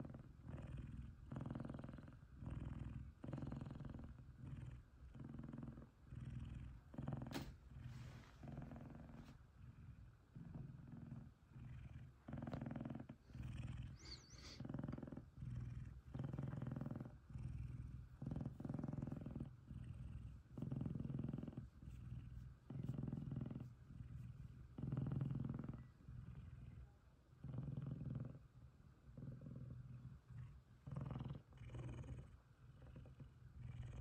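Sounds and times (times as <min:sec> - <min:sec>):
cat purring loudly: 0:00.0 - 0:34.0.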